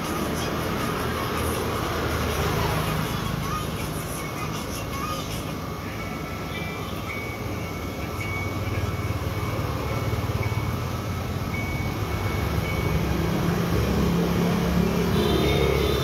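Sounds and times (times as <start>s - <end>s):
motorbike engine rumbling: 0.0s - 16.0s
street traffic: 0.0s - 16.0s.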